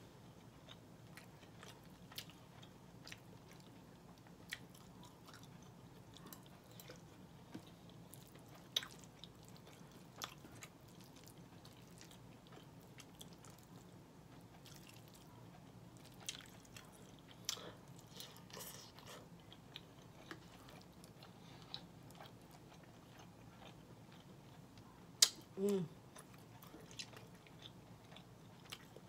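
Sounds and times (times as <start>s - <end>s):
low room hum: 0.0s - 29.0s
person chewing: 0.6s - 29.0s.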